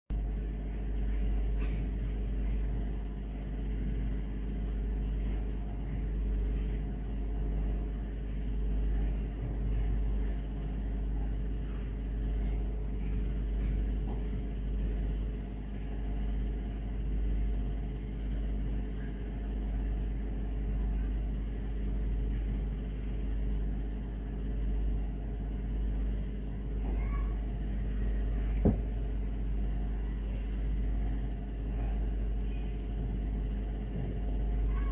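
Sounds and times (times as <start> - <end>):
faint hum: 0.1 - 34.9.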